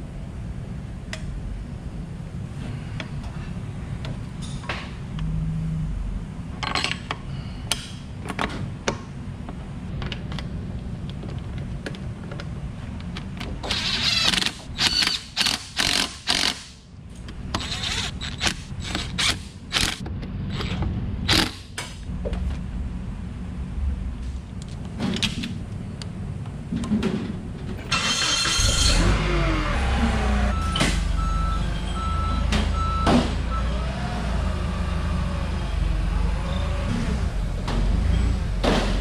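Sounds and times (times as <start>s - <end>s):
steady low hum: 0.0s - 33.6s.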